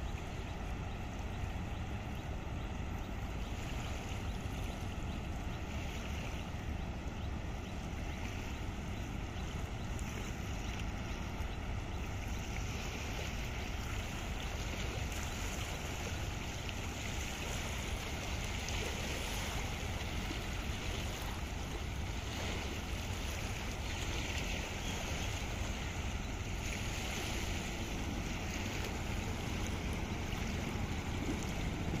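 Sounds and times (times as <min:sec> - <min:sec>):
boat engines rumbling: 0:00.0 - 0:32.0
rushing water: 0:00.0 - 0:32.0.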